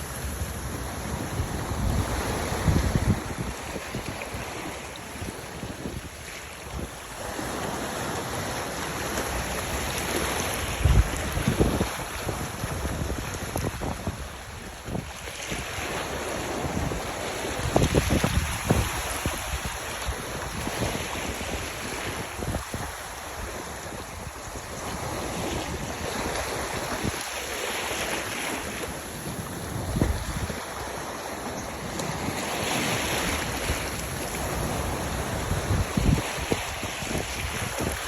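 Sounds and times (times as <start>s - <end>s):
wind buffeting microphone: 0.0s - 7.8s, 9.4s - 27.3s, 27.9s - 38.0s
sea waves washing: 0.0s - 38.0s.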